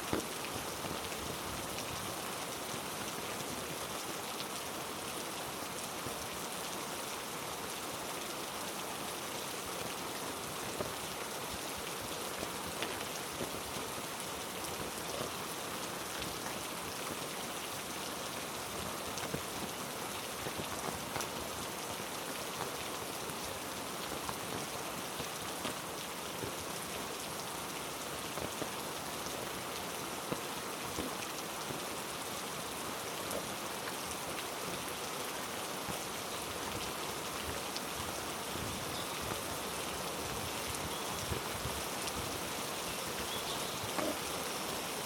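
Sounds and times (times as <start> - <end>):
heavy rain on foliage: 0.0 - 45.0.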